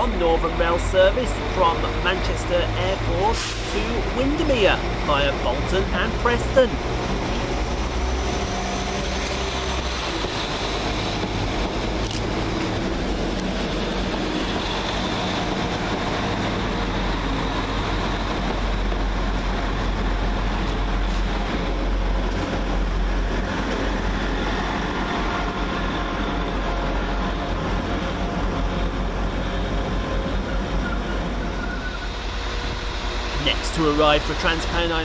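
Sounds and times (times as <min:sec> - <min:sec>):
diesel train engine rumbling: 0:00.0 - 0:35.0.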